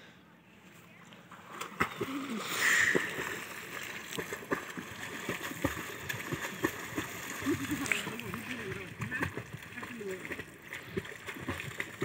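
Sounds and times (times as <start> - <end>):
water splashing from kicking legs: 1.6 - 12.0.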